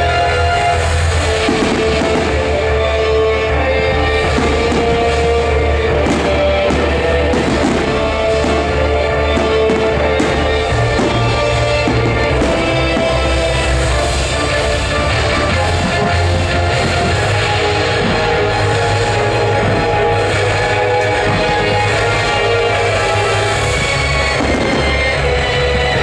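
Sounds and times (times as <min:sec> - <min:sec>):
fireworks bursting and crackling: 0:00.0 - 0:26.0
loud music over sound system: 0:00.0 - 0:26.0.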